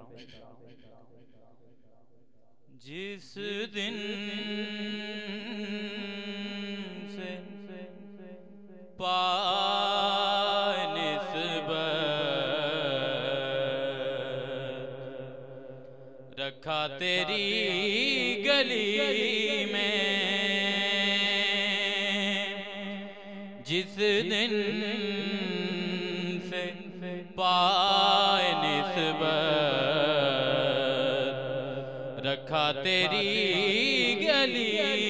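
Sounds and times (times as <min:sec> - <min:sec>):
man singing: 0:02.8 - 0:07.8, 0:09.0 - 0:15.1, 0:16.4 - 0:22.6, 0:23.6 - 0:35.0.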